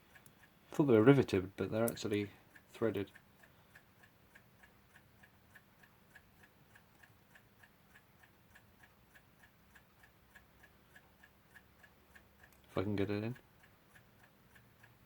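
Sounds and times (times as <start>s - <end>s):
mechanical clock ticking: 0.0s - 15.0s.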